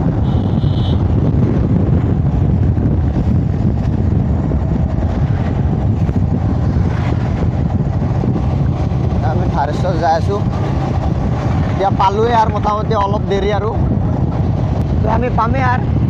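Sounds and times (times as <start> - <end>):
vehicle road and engine noise: 0.0 - 16.0
wind buffeting microphone: 0.0 - 16.0.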